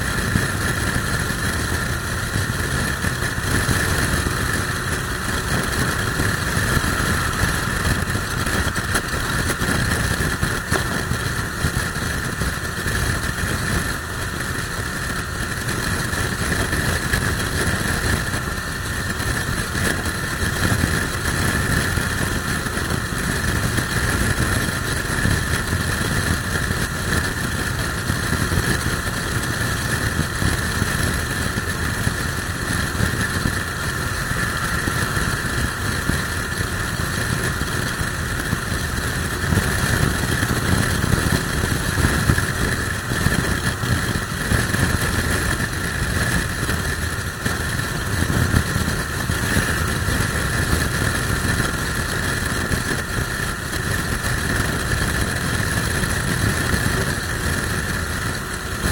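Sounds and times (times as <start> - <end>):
motorcycle engine running: 0.0 - 58.9
wind rushing on microphone: 0.0 - 58.9.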